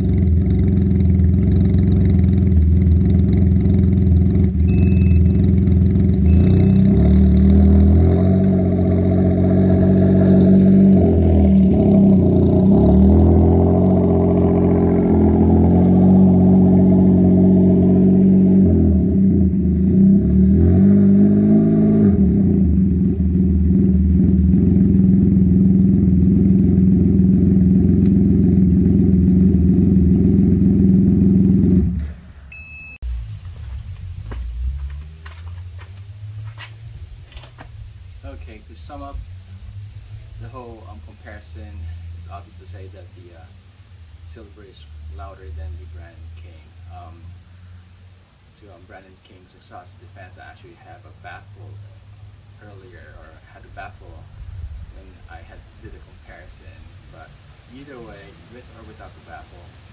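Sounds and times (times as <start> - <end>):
trike engine revving: 0.0 - 32.3, 33.0 - 59.9.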